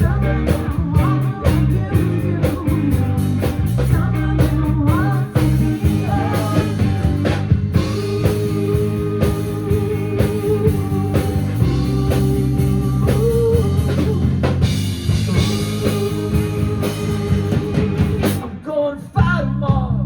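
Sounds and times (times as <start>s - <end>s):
electric guitars: 0.0s - 19.1s
bass guitar: 0.0s - 20.0s
drum kit: 0.0s - 20.0s.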